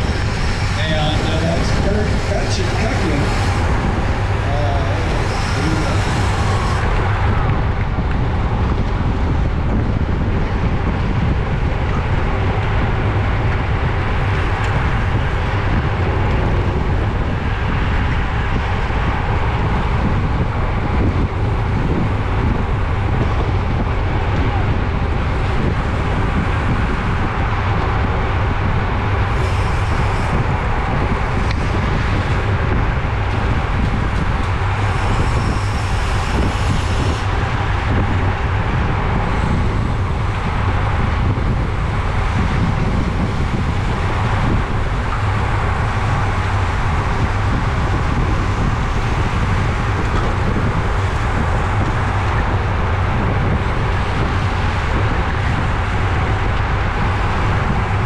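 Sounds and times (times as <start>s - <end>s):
low rumble of road noise: 0.0s - 58.0s
wind rushing over microphone: 0.0s - 58.0s.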